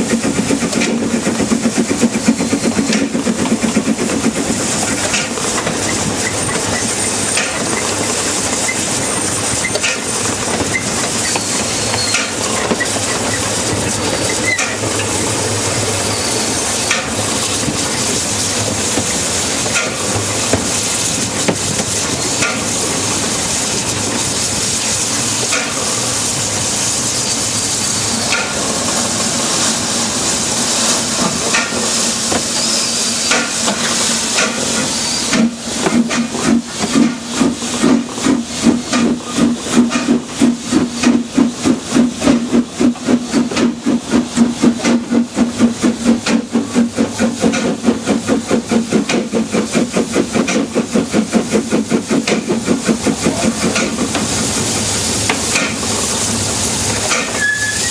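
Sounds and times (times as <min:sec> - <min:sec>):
steam hissing: 0:00.0 - 0:57.9
steam locomotive chuffing: 0:00.0 - 0:57.9.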